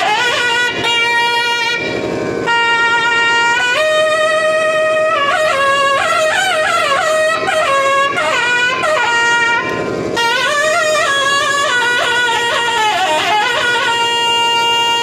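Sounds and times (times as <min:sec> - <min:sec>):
double-reed pipe melody: 0:00.0 - 0:15.0.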